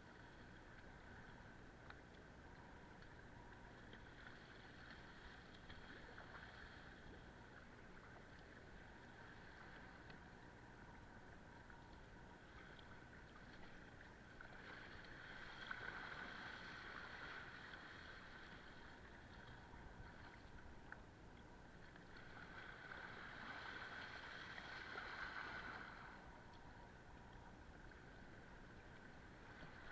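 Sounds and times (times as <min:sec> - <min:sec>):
paddled boat in choppy water: 0:00.0 - 0:29.9.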